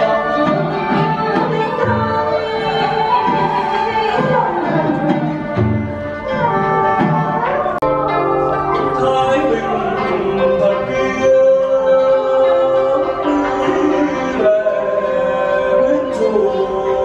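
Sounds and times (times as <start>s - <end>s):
drums: 0.0s - 17.0s
person singing: 0.0s - 17.0s
stringed instruments: 0.0s - 17.0s.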